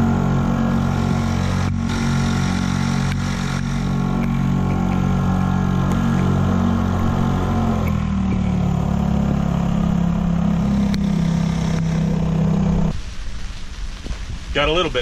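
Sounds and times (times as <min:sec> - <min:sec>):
outboard motor running: 0:00.0 - 0:13.1.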